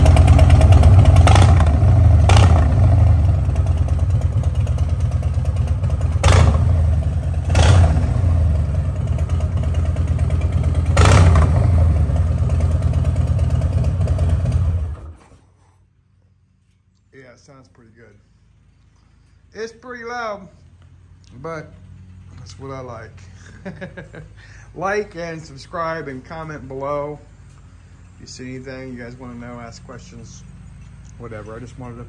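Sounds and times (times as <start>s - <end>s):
motorcycle engine idling: 0.0s - 15.3s, 18.1s - 32.0s.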